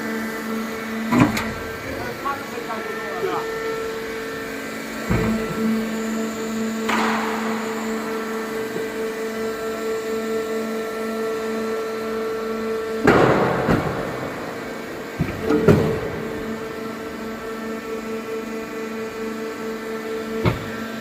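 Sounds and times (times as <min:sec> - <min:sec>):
baler power unit humming: 0:00.0 - 0:21.0.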